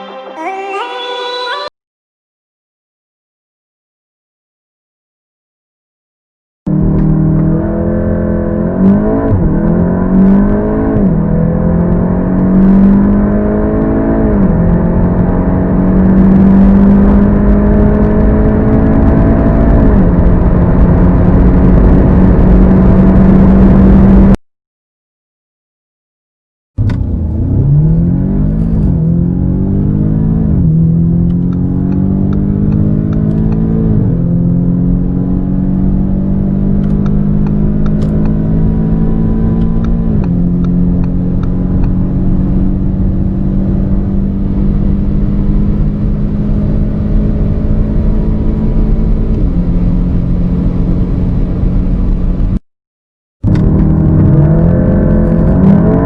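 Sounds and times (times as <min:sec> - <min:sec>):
car engine accelerating through gears: 0:06.7 - 0:24.4, 0:26.8 - 0:52.6, 0:53.4 - 0:56.0.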